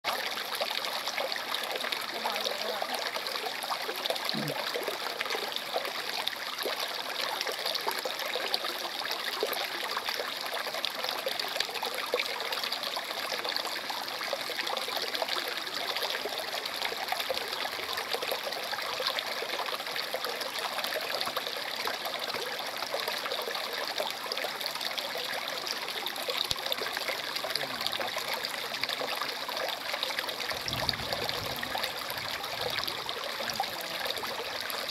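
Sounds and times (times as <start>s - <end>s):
stream trickling: 0.1s - 34.9s.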